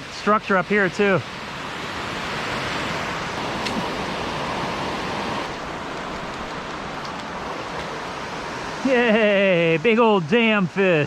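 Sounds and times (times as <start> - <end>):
water rushing over a dam: 0.0 - 11.0.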